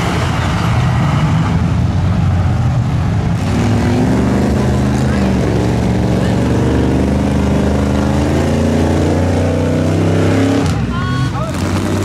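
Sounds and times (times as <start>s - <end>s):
truck engines under throttle: 0.0s - 12.0s.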